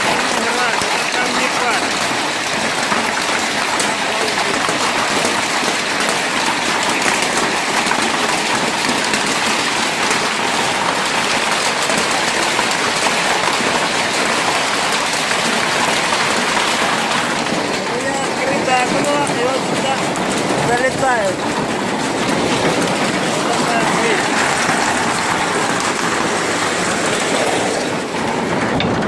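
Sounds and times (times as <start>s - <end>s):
hailstones hitting roofs: 0.0s - 29.0s.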